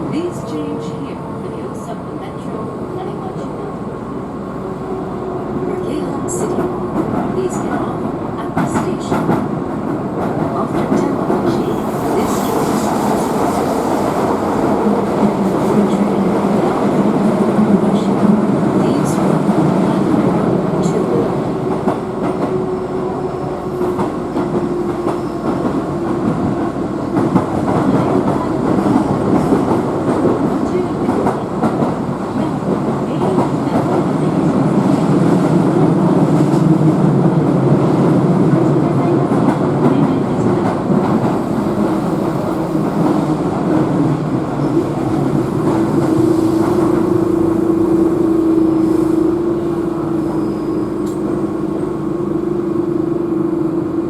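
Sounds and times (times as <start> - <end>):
train wheel and rail rumble: 0.0 - 54.0
clickety-clack of rails: 5.6 - 54.0.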